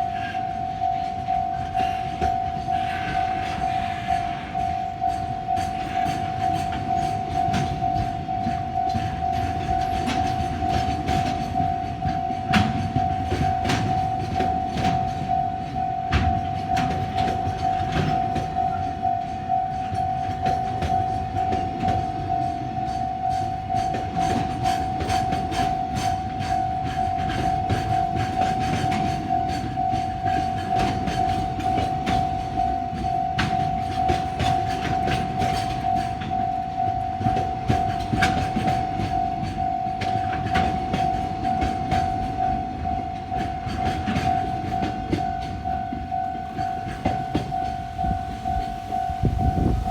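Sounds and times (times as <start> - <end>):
freight train rumbling and clacking: 0.0 - 49.9
level-crossing bell ringing: 0.0 - 49.9.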